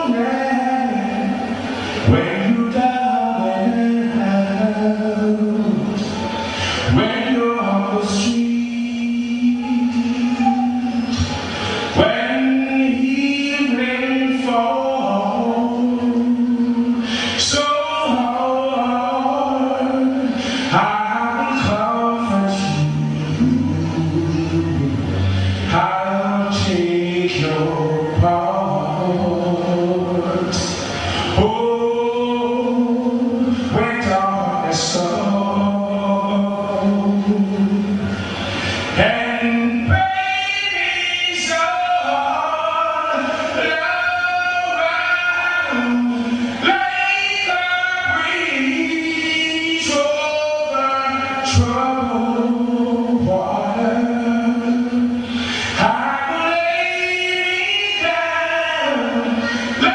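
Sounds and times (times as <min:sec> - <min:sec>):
man singing into microphone: 0:00.0 - 0:59.9.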